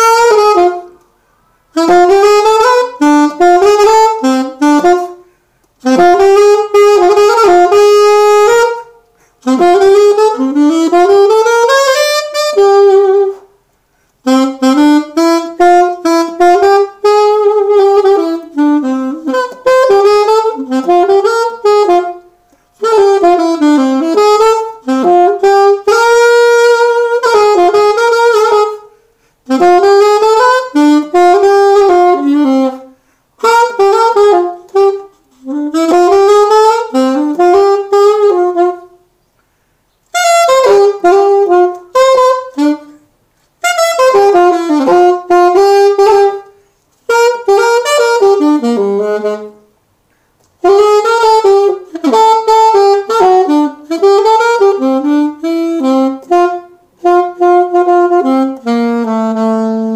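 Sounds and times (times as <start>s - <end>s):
solo wind instrument melody: 0.0s - 13.6s, 14.2s - 39.2s, 40.0s - 49.8s, 50.6s - 59.9s.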